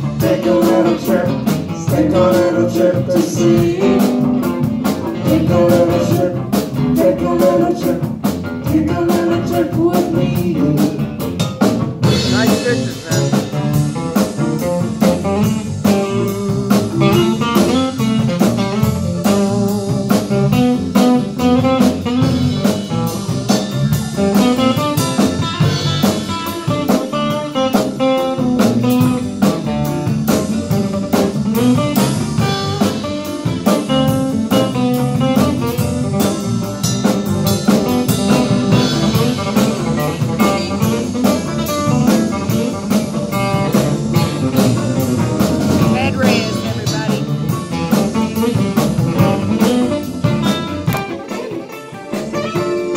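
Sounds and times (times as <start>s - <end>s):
drum kit steady beat: 0.0s - 52.9s
live band playing guitars: 0.0s - 52.9s.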